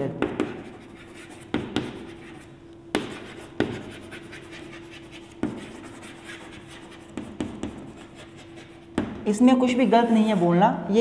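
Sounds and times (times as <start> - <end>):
chalk scratching on chalkboard: 0.2 - 9.0, 9.6 - 10.6
chalk tapping on board: 0.2 - 9.2.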